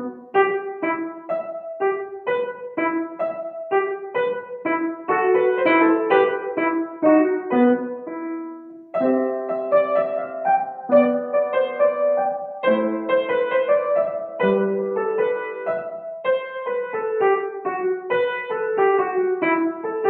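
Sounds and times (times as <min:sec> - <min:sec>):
child playing piano melody: 0:00.0 - 0:20.0.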